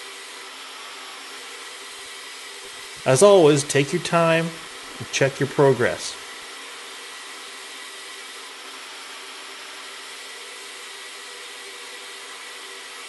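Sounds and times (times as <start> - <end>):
die grinder grinding saw blade: 0.0 - 13.0.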